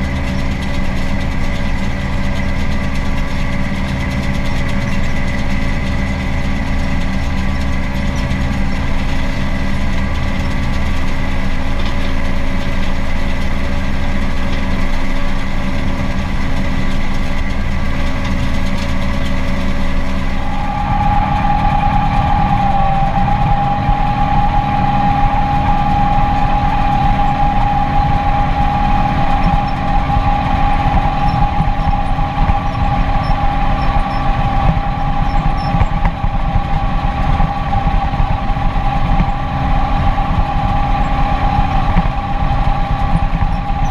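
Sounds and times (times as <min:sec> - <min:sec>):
steady high whine: 0:00.0 - 0:43.9
tractor diesel engine running: 0:00.0 - 0:43.9.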